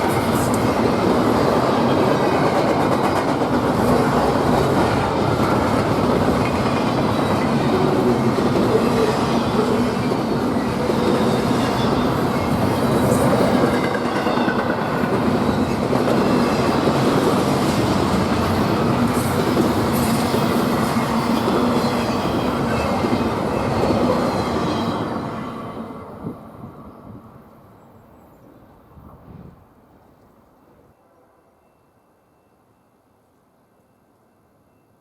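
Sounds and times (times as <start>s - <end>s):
train cars rolling past: 0.0s - 29.6s.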